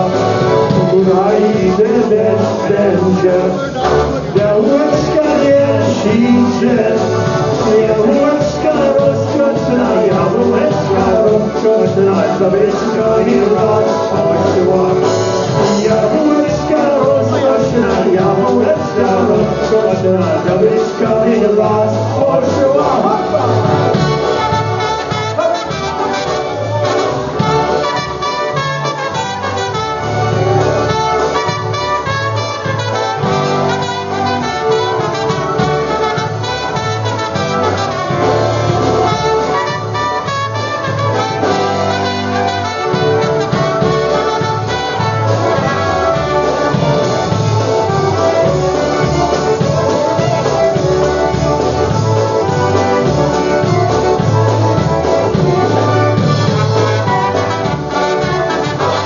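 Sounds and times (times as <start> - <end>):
polka band playing: 0.0 - 59.0.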